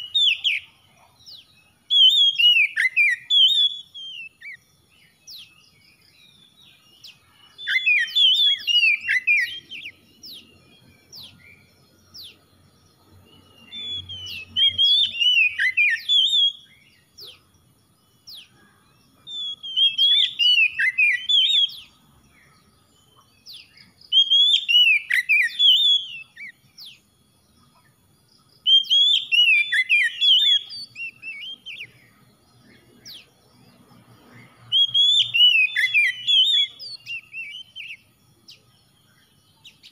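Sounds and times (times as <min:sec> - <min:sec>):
bird singing rapid notes: 0:00.0 - 0:39.9.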